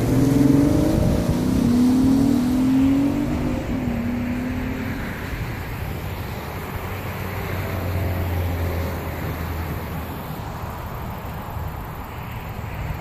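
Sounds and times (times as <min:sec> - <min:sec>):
distant car engine droning: 0:00.0 - 0:13.0
wind and road noise hiss: 0:00.0 - 0:13.0.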